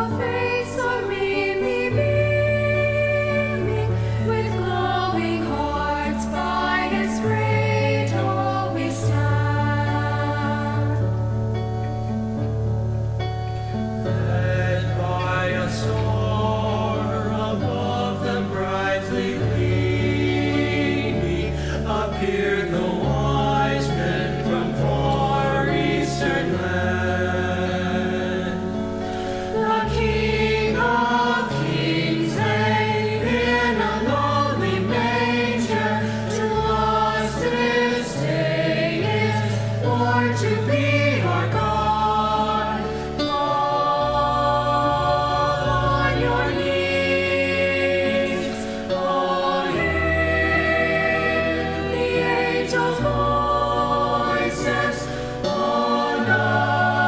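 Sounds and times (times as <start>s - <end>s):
choir singing a carol in harmony: 0.0s - 57.0s
instrumental accompaniment with bass notes: 0.0s - 57.0s.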